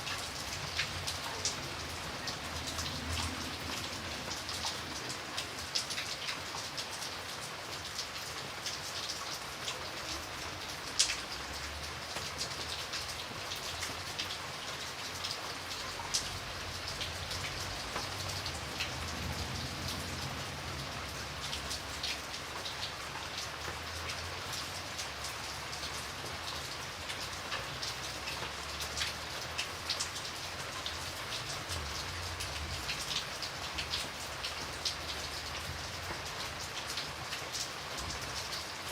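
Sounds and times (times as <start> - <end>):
rain pattering on hard surface: 0.0 - 38.9.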